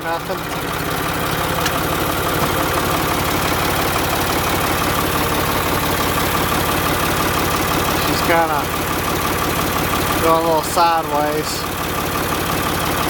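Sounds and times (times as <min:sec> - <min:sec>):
engine running at low speed: 0:00.0 - 0:13.0.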